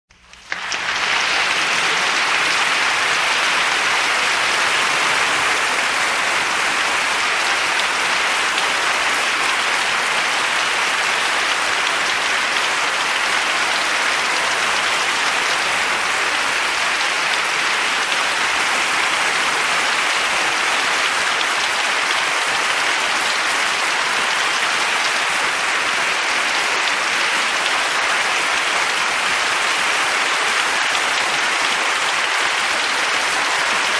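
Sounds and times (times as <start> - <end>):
crowd clapping: 0.2 - 33.9.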